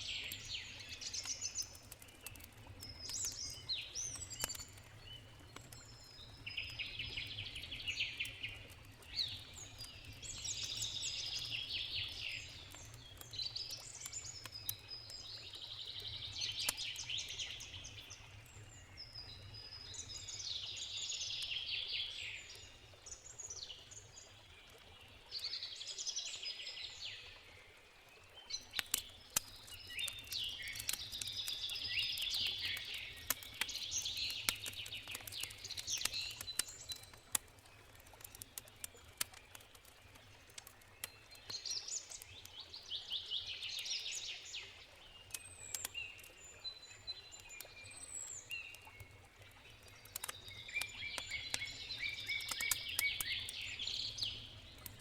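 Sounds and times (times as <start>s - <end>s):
campfire crackling and popping: 0.0s - 25.4s, 27.4s - 55.0s.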